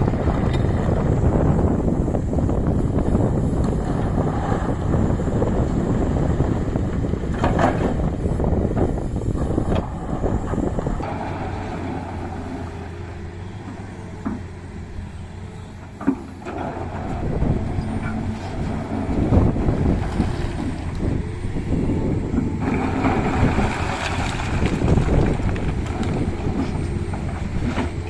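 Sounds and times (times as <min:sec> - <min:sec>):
excavator engine rumble: 0:00.0 - 0:28.0.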